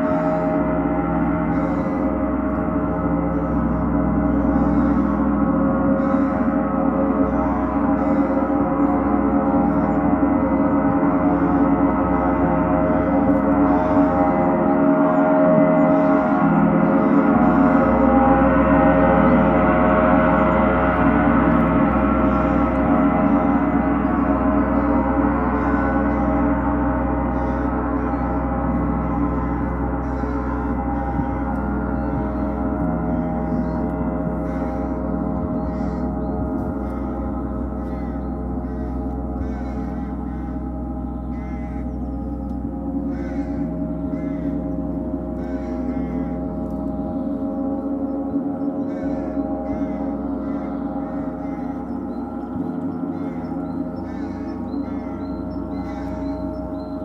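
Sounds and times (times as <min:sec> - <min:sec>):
gong ringing: 0:00.0 - 0:57.0.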